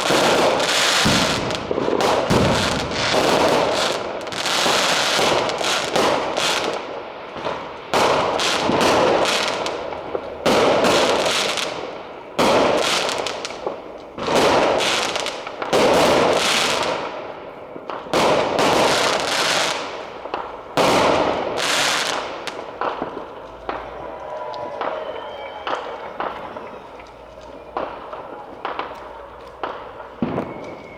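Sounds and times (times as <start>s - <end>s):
fireworks bursting and crackling: 0.0s - 30.9s.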